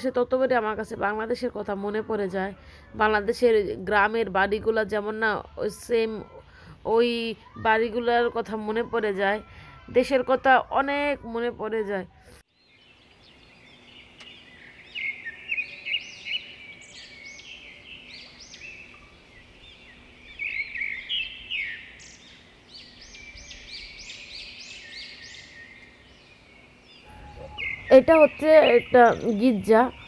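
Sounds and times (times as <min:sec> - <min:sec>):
birds chirping and twittering: 0:00.1 - 0:30.0.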